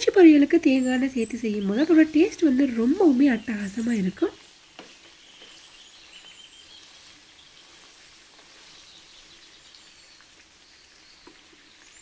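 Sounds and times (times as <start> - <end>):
beef sizzling in a pan: 0.0 - 12.0.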